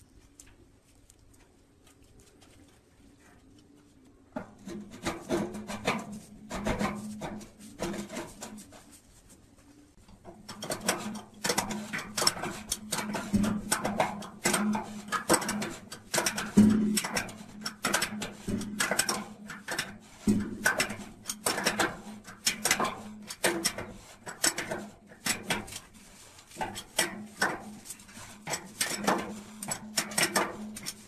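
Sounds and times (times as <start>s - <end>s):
scraping and clicking: 0.0s - 31.0s.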